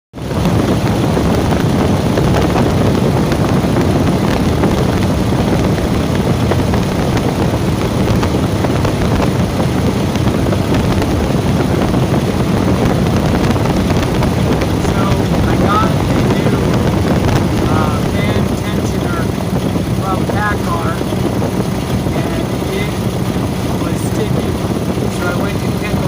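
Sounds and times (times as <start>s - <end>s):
diesel engine running loudly: 0.1s - 26.0s.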